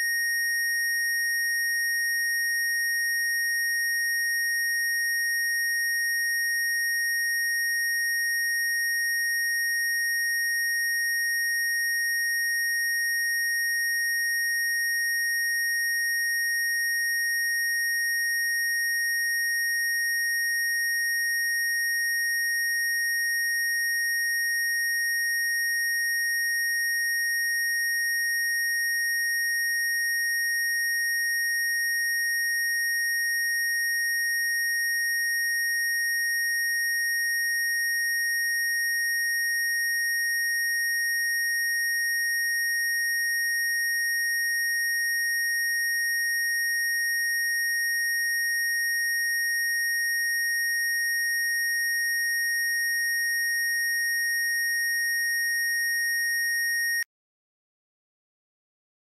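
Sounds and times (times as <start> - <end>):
high-pitched sine tone: 0.0 - 57.1.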